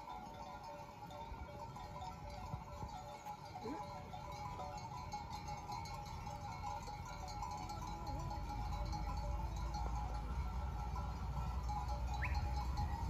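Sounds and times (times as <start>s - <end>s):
animal bells clinking: 0.0s - 13.0s.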